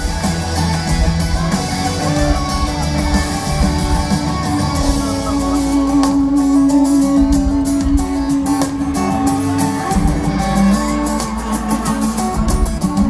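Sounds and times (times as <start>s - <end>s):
live band playing country-pop: 0.0s - 13.0s.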